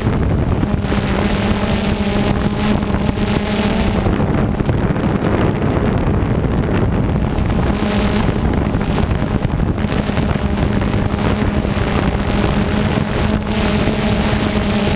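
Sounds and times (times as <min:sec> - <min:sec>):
drone propellers humming: 0:00.0 - 0:14.9
wind buffeting microphone: 0:00.0 - 0:14.9.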